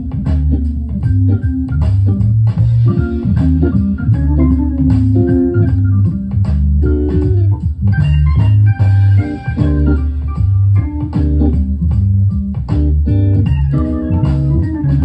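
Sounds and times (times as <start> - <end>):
soul-jazz organ music from a record: 0.0 - 15.0.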